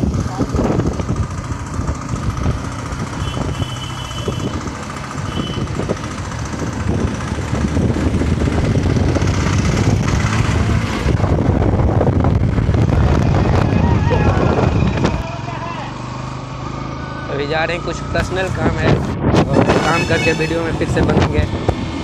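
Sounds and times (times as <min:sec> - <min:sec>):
wind rush on microphone: 0:00.0 - 0:15.2, 0:18.2 - 0:22.0
motorcycle engine running: 0:00.0 - 0:22.0.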